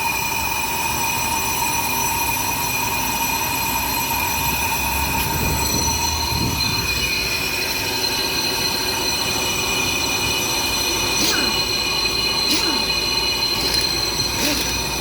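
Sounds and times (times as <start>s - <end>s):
brake lathe ringing squeal: 0.0s - 15.0s
machine running noise: 2.3s - 15.0s.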